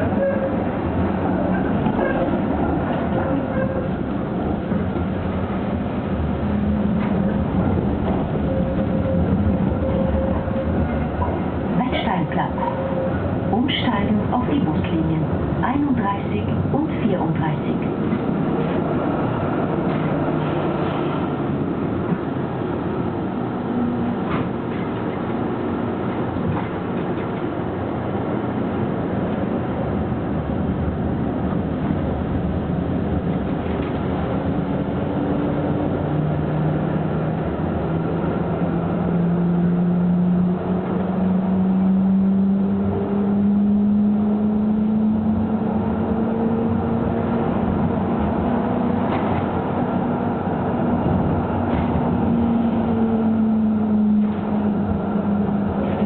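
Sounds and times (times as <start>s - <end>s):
tram rolling noise: 0.0s - 56.0s.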